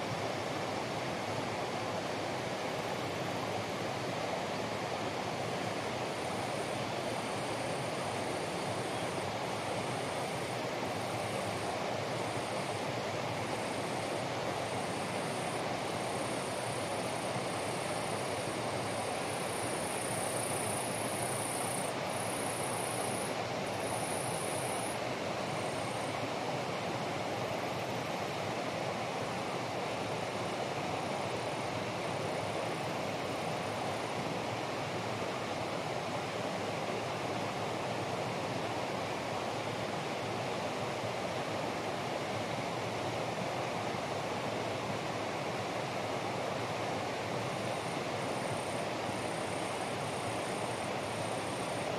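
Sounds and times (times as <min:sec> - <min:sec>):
rain in vegetation: 0:00.0 - 0:51.9.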